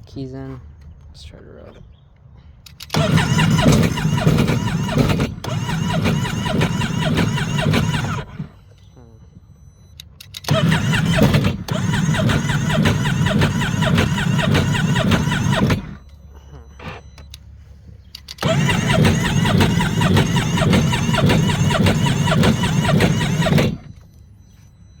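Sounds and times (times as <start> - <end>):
engine cranking by electric starter: 2.6 - 9.0, 10.0 - 25.0.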